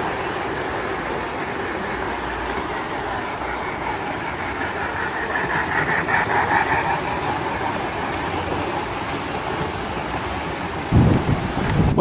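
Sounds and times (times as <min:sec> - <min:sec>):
toy train wheels clattering on rails: 0:00.0 - 0:12.0.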